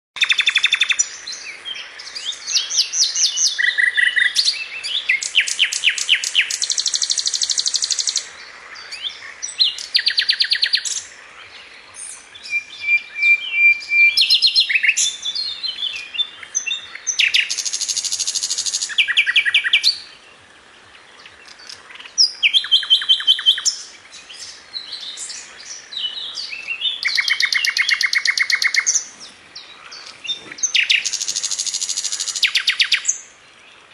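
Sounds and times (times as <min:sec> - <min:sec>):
songbird singing: 0:00.2 - 0:33.9.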